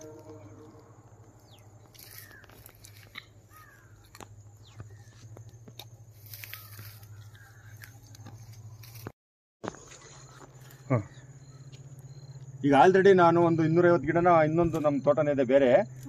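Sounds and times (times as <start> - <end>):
bird calls: 0.0 - 9.1, 9.8 - 16.0
steady low hum: 0.0 - 9.1, 9.7 - 16.0.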